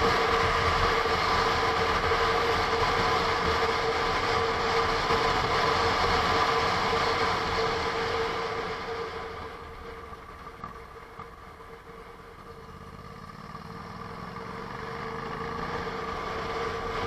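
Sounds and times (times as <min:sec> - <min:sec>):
motorcycle engine drone: 0:00.0 - 0:17.0.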